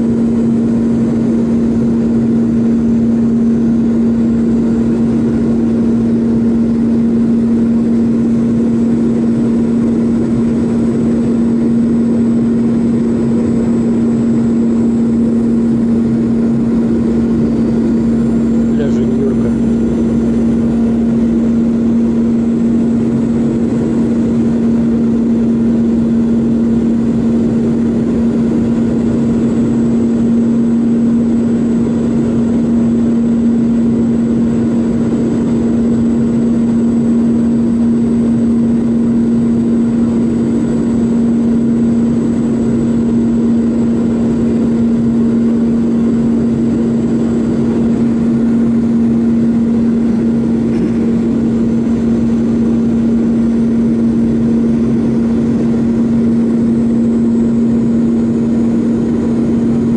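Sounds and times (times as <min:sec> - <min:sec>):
jet engine steady hum: 0:00.0 - 0:59.9.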